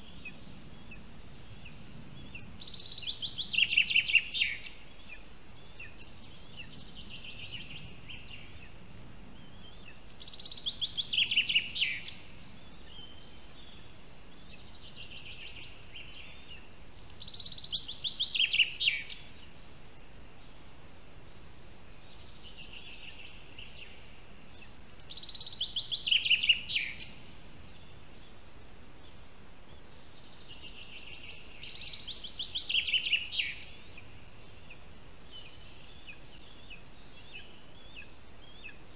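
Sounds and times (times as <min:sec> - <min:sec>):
songbird trilling song: 0:00.0 - 0:38.9
steady forest hiss: 0:00.0 - 0:38.9.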